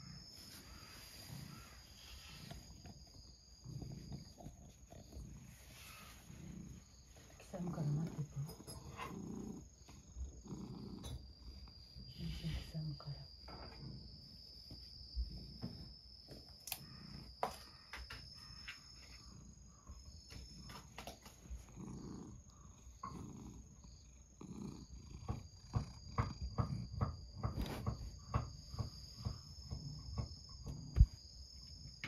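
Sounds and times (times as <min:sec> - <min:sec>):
cat purring: 0:00.0 - 0:15.9, 0:18.4 - 0:32.0.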